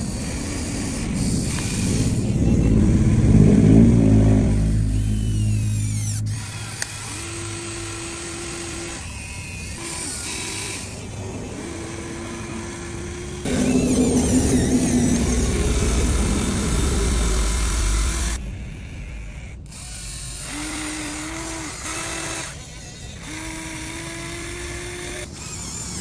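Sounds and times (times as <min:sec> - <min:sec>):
small electric motors rumbling: 0:00.0 - 0:26.0
steady motor whine: 0:00.0 - 0:26.0.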